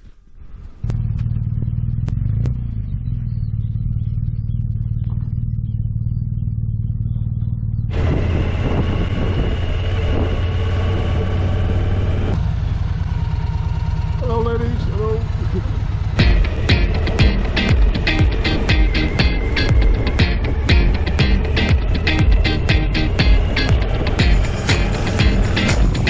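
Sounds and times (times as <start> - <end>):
wind and road noise: 0.0 - 26.0
motorcycle engine running: 0.6 - 26.0.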